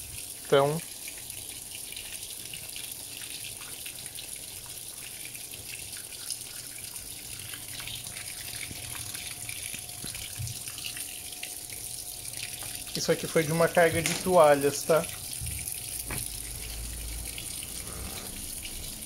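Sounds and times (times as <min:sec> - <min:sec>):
water pouring into washing machine: 0:00.0 - 0:19.0.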